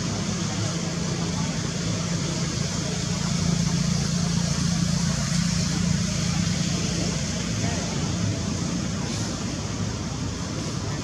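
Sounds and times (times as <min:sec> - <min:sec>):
constant hiss: 0:00.0 - 0:11.0.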